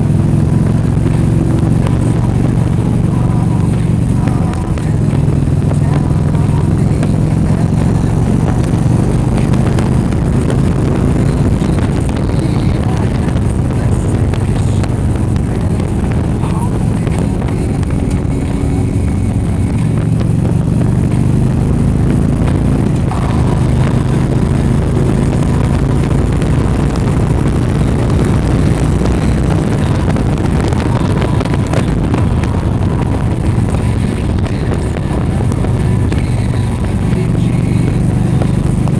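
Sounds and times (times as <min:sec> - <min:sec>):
road noise: 0:00.0 - 0:38.9
vehicle engine hum: 0:00.0 - 0:38.9.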